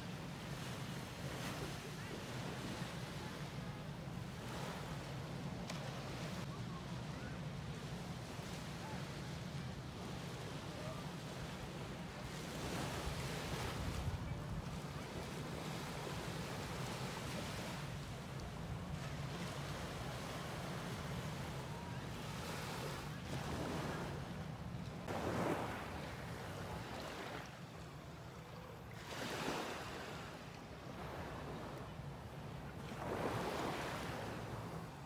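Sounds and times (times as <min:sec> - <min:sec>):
small waves washing onto beach: 0:00.0 - 0:35.0.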